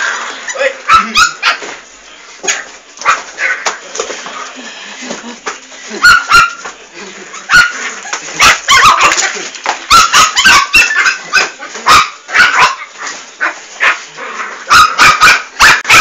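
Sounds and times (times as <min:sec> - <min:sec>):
puppies yapping: 0:00.0 - 0:03.8, 0:05.9 - 0:16.0.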